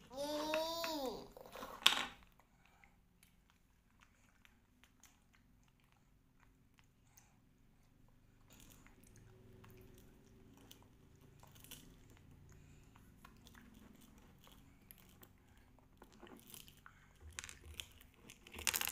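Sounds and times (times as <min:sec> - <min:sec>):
crunching and chewing candies: 0:01.6 - 0:18.9.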